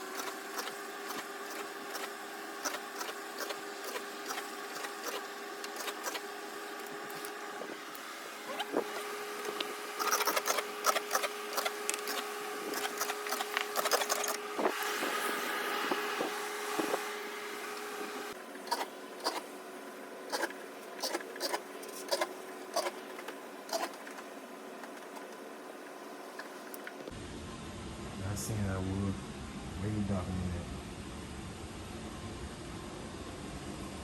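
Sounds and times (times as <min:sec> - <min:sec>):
carpet cleaning machine humming: 0:00.0 - 0:27.2.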